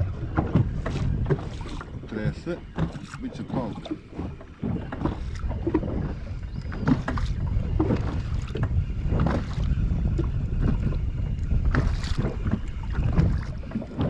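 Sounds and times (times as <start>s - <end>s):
water around a boat: 0.0s - 14.0s
wind buffeting microphone: 0.0s - 14.0s.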